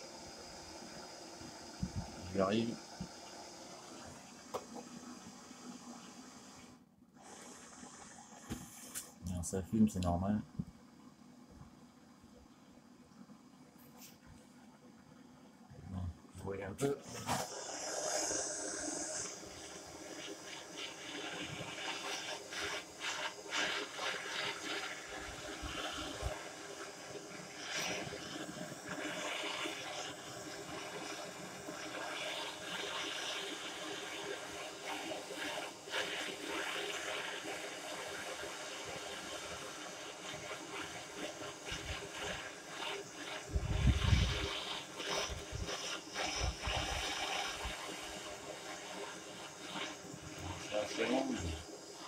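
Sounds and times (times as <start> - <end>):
flame hissing: 0.0 - 12.4, 15.6 - 52.0.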